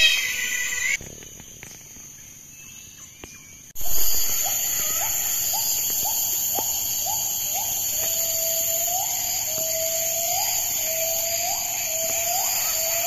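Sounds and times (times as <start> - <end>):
high insect drone: 0.0 - 2.3, 3.8 - 13.0.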